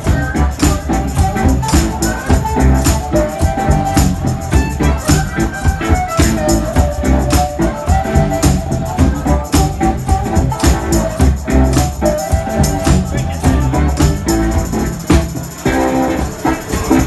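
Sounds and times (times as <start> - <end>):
amplified harmonica: 0.0 - 15.0
shaken percussion: 0.0 - 17.0
steady beat: 0.0 - 17.0.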